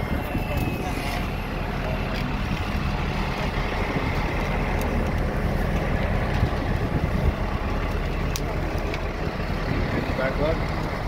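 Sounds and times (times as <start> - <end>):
emergency vehicle engine idling: 0.0 - 11.0.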